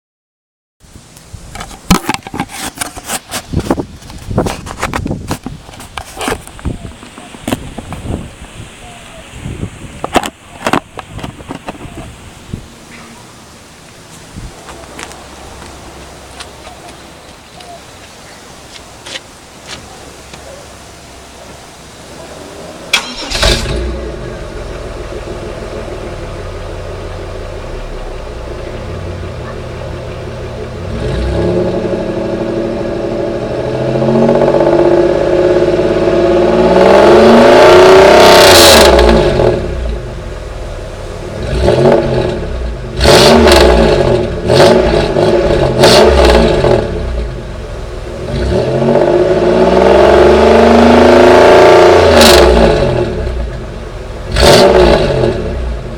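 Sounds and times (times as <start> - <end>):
car engine idling and revving: 1.8 - 55.9.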